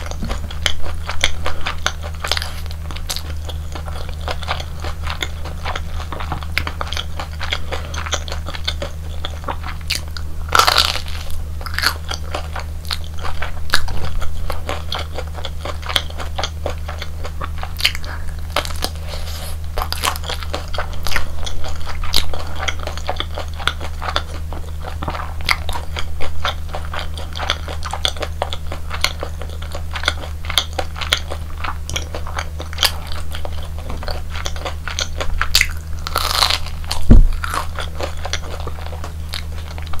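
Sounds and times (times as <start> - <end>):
crunching bites and chewing: 0.0 - 40.0
steady low hum: 0.0 - 40.0.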